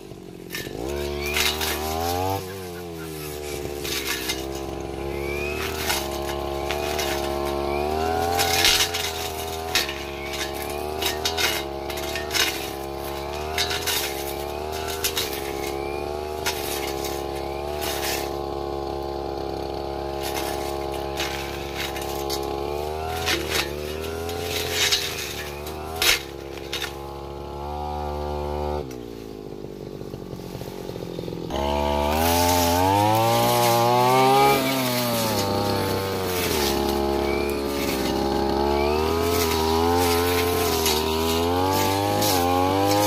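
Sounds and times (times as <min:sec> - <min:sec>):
blade hitting grass and stems: 0:00.0 - 0:29.3, 0:30.4 - 0:43.0
brush cutter engine at high revs: 0:00.0 - 0:43.0.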